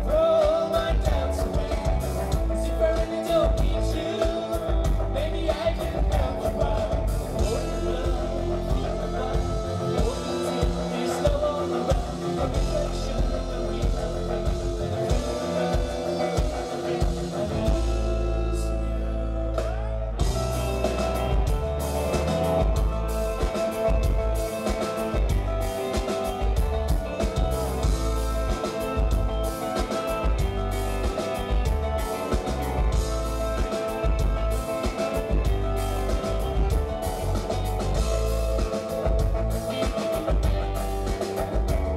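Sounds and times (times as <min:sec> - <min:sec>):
drums: 0:00.0 - 0:41.9
pop-rock band playing: 0:00.0 - 0:41.9.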